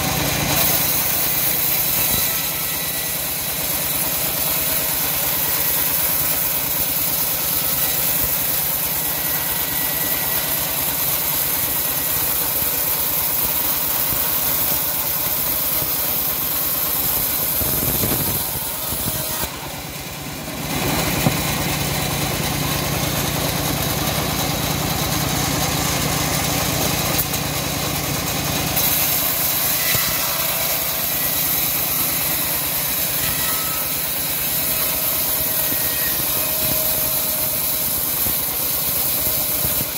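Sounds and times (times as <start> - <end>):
bandsaw mill cutting wood: 0.0 - 39.9.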